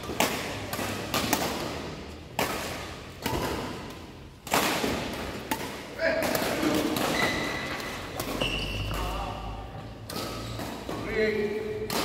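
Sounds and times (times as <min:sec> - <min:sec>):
rackets hitting shuttlecock: 0:00.0 - 0:12.0.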